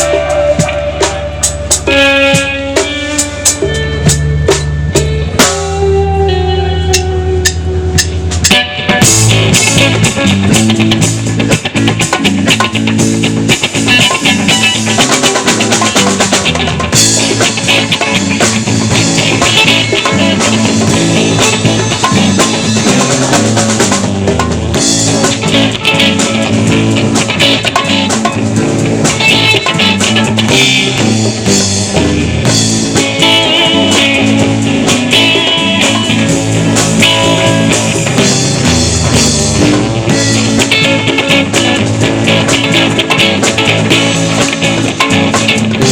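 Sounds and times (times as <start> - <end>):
bass: 0.0 - 45.9
drum kit: 0.0 - 45.9
guitar: 0.0 - 45.9.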